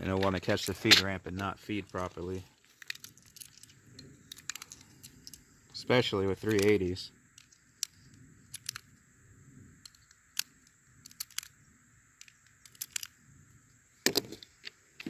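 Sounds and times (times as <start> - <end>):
sharp metallic clicks: 0.0 - 9.0, 9.8 - 13.2.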